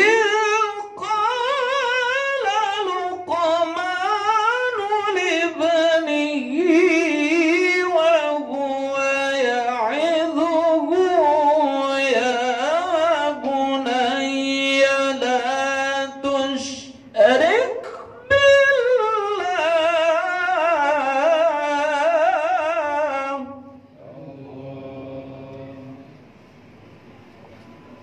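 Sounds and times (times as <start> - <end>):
man reciting melodically: 0.0 - 26.1.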